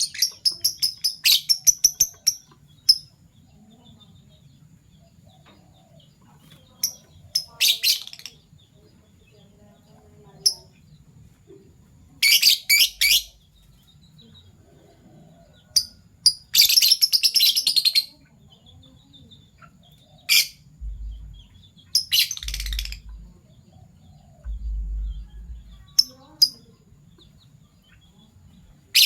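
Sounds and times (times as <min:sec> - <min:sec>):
lovebirds chirping: 0:00.0 - 0:29.0.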